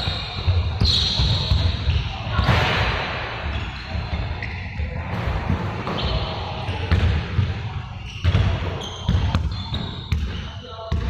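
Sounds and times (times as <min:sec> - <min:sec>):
busy background noise: 0:00.0 - 0:11.0.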